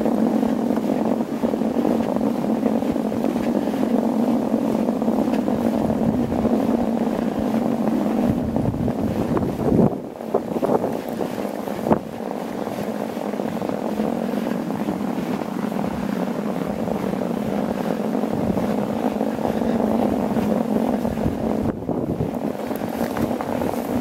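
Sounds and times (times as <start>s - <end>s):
bicycle tyres rolling over snow: 0.0s - 24.0s
wind on microphone: 0.0s - 24.0s.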